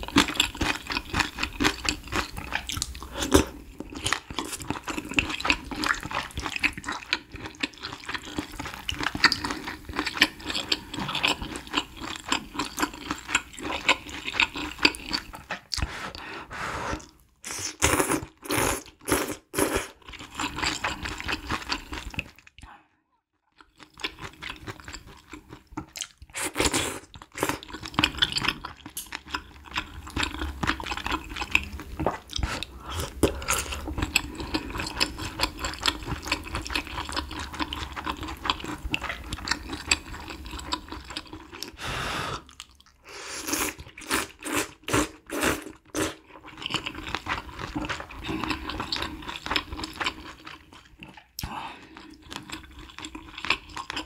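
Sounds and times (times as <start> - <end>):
wet chewing and crunching: 0.0 - 16.2, 17.0 - 22.7, 23.5 - 41.8, 42.4 - 54.0.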